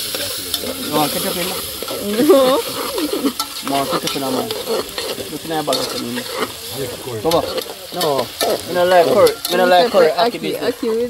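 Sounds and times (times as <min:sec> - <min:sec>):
spoon scraping metal pot: 0:00.0 - 0:10.2
steady hiss: 0:00.0 - 0:11.0.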